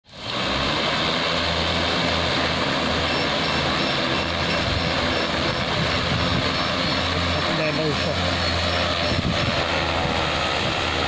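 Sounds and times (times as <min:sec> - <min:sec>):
drone propellers whirring: 0:00.1 - 0:11.0.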